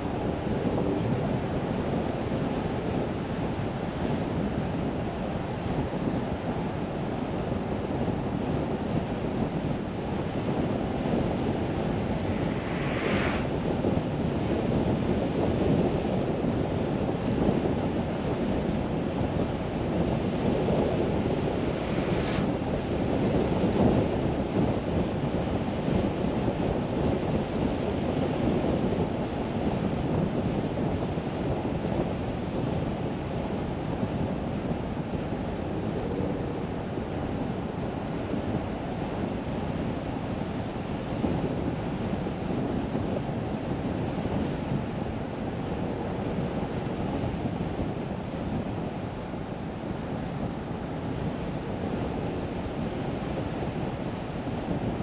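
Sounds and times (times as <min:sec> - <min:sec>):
car road rumble and wind: 0:00.0 - 0:55.0.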